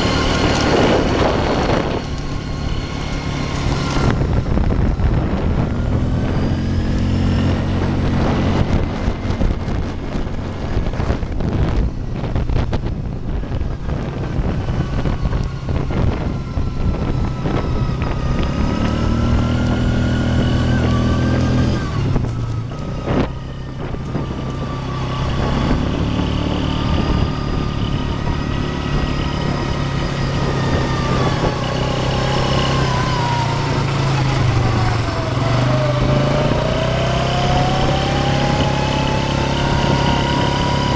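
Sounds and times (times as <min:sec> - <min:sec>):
off-road vehicle engine whine: 0:00.0 - 0:40.9
wind buffeting microphone: 0:00.0 - 0:40.9.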